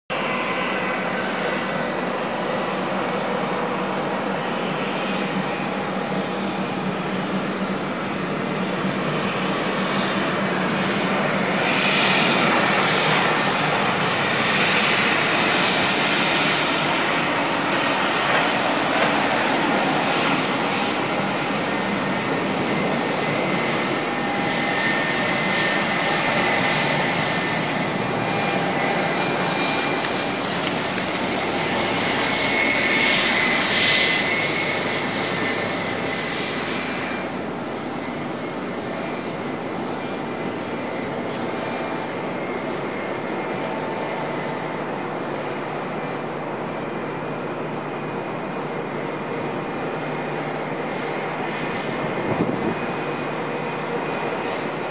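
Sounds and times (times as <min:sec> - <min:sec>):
jet engines taxiing: 0:00.1 - 0:54.9.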